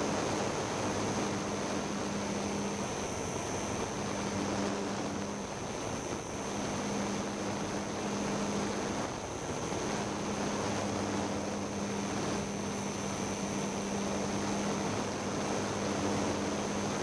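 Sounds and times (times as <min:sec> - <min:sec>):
model aircraft motor hum: 0:00.0 - 0:17.0
thin high whine: 0:00.0 - 0:17.0.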